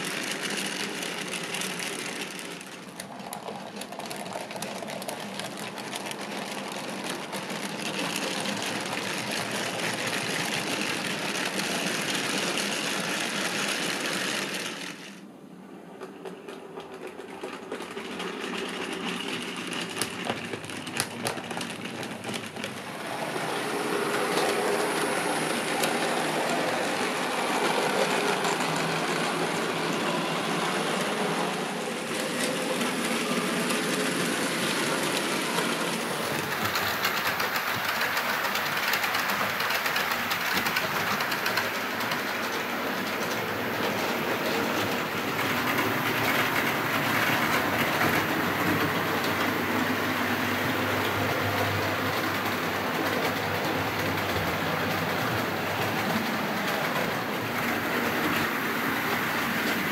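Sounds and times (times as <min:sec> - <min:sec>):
wheels clicking over rails: 0:00.0 - 0:59.9.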